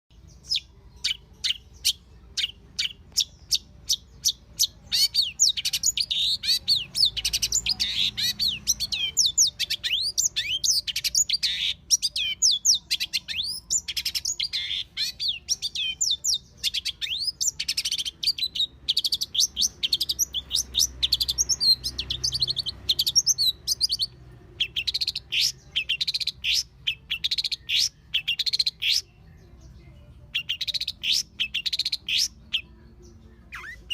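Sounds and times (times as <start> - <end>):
shrike singing: 0.1 - 33.9.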